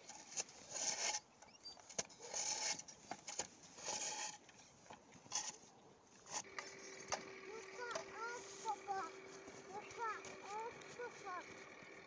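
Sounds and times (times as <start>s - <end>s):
toy excavator bucket scraping snow: 0.0s - 4.4s, 5.2s - 5.6s, 6.2s - 11.4s.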